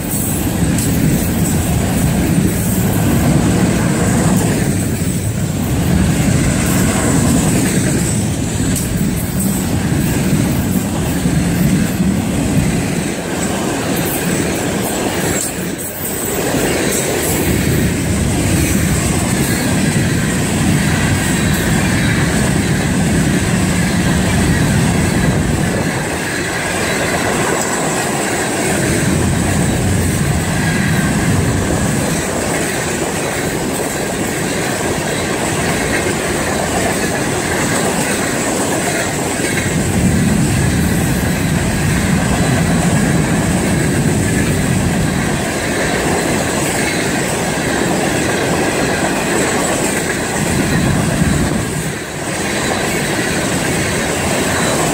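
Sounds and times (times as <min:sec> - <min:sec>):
clickety-clack over rail joints: 0:00.0 - 0:54.9
train wheels rumbling on rail: 0:00.0 - 0:54.9.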